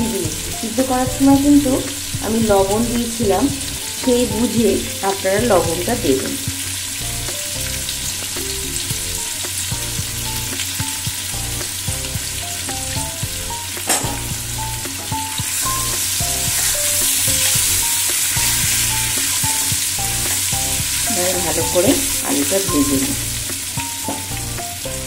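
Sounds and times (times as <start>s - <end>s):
potatoes sizzling in hot oil: 0.0s - 25.0s.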